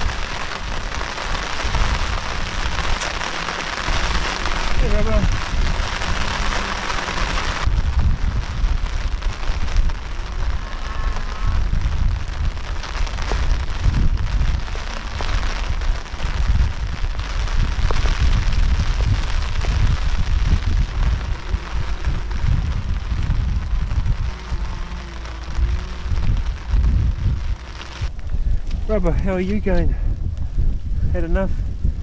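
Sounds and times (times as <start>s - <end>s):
rain hiss: 0.0s - 32.0s
wind buffeting microphone: 0.0s - 32.0s.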